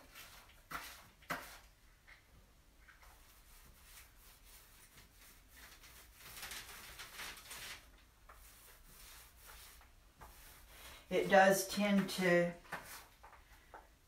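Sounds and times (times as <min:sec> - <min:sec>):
paint roller rubbing: 0:00.0 - 0:01.7, 0:03.0 - 0:13.4.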